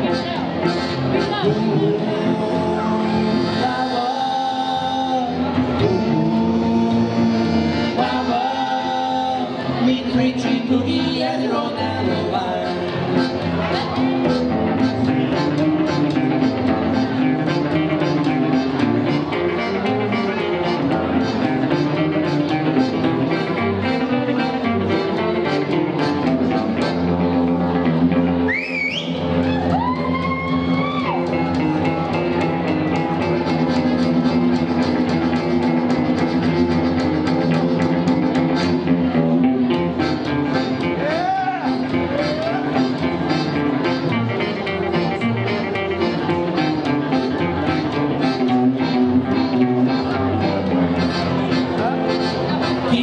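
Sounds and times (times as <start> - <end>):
live boogie band playing: 0.0 - 53.0.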